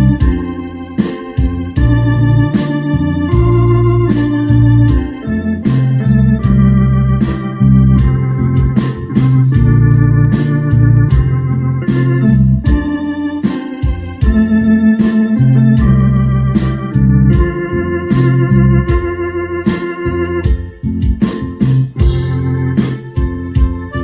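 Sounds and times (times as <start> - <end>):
electronic organ ballad: 0.0 - 24.0
programmed drum beat: 0.0 - 24.0.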